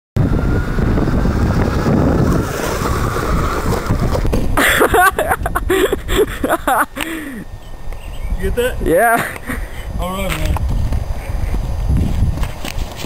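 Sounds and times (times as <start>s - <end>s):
wind on microphone: 0.2s - 6.7s, 7.4s - 13.0s.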